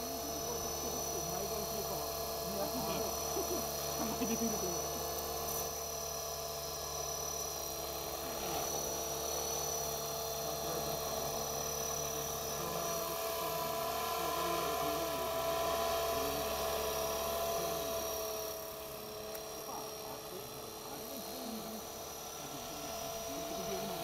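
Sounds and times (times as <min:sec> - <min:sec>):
rc helicopter motor whine: 0:00.0 - 0:24.0
rotor blades whirring: 0:00.0 - 0:24.0.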